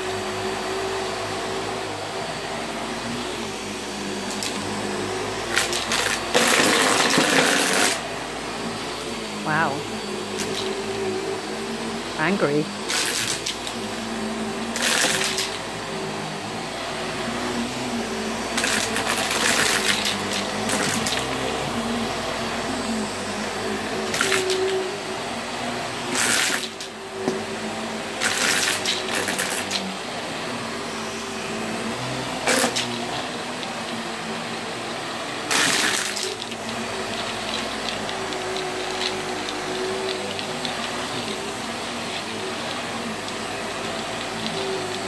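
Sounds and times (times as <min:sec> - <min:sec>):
stick vacuum running over rug: 0:00.0 - 0:45.0.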